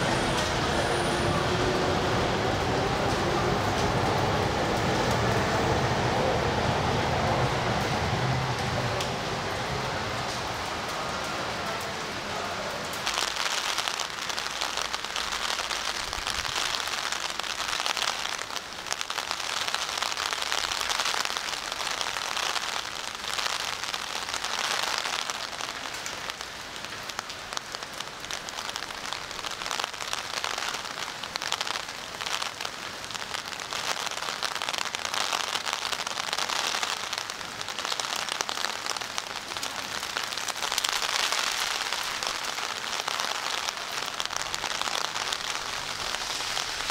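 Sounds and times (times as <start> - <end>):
rain on wet pavement: 0.0 - 46.9.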